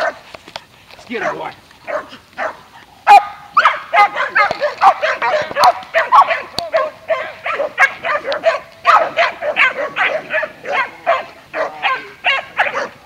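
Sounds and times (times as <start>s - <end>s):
dogs barking rapidly: 0.0s - 0.3s, 1.1s - 13.0s.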